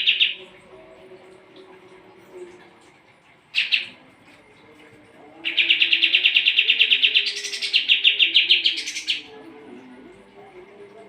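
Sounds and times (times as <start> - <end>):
songbird chirp and trill: 0.0 - 11.0.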